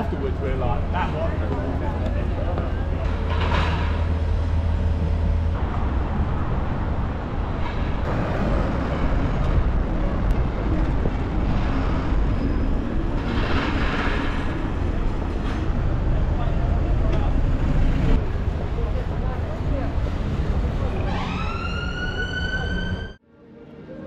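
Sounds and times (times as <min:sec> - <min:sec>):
road traffic passing: 0:00.0 - 0:23.8.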